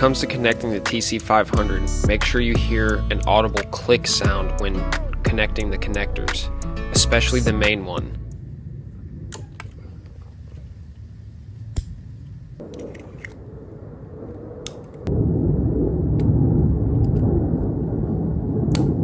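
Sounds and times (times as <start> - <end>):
steady low noise: 0.0 - 19.0.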